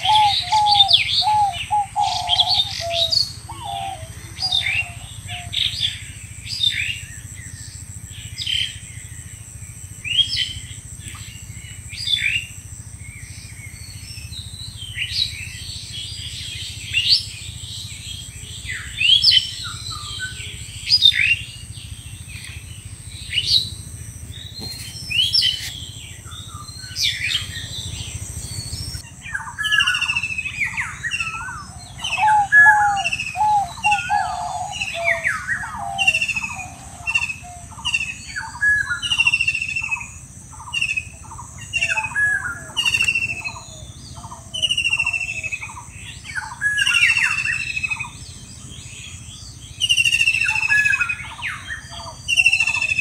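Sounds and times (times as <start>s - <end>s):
lower bird call: 0.0s - 9.4s, 10.0s - 53.0s
birds chirping: 0.0s - 53.0s.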